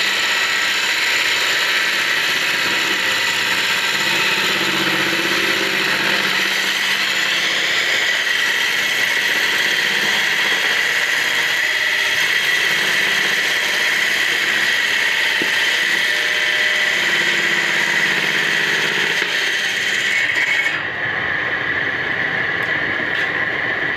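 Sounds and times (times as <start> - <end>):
circular saw cutting wood: 0.0 - 23.9.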